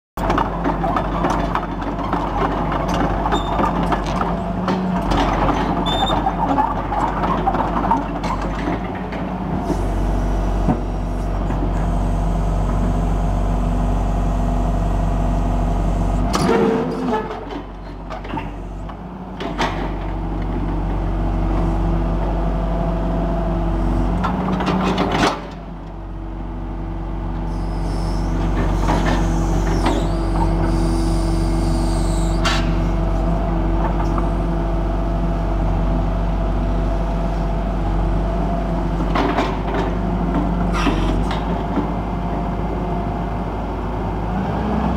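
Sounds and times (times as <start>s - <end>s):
excavator diesel engine running: 0.2s - 44.9s.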